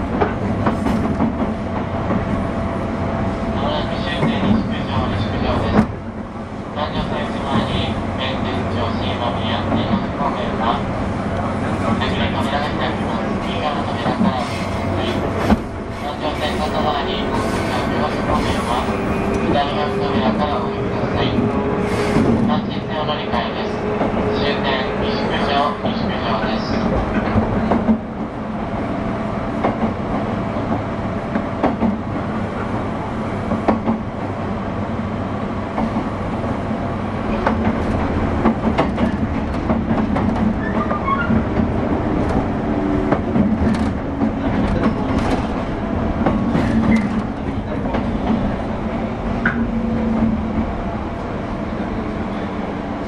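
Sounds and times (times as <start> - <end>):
train rumble and hum: 0.0 - 53.0.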